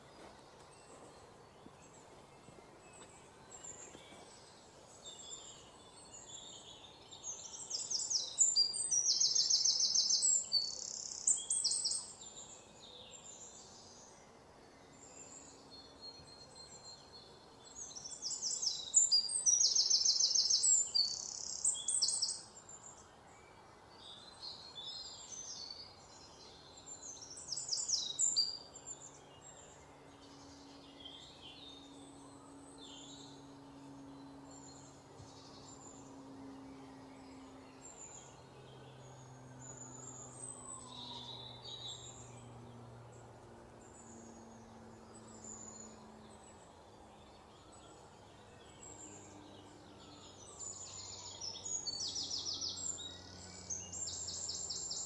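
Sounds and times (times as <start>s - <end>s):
faint low hum: 0.0s - 55.0s
small birds chirping and trilling: 0.0s - 55.0s.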